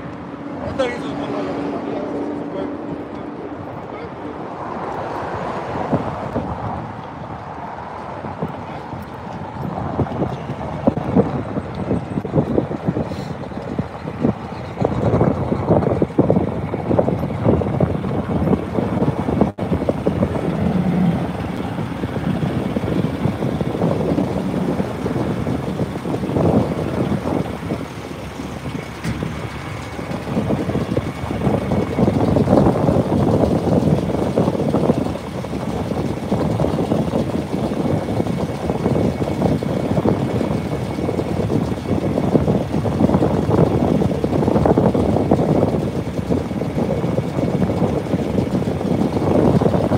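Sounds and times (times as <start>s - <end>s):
diesel truck engine idling: 0.0s - 49.9s
wind gusting on microphone: 0.0s - 49.9s.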